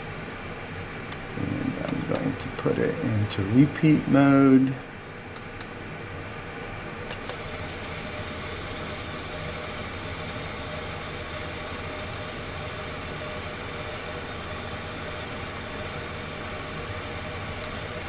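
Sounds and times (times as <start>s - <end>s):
machine hum and whine: 0.0s - 18.0s.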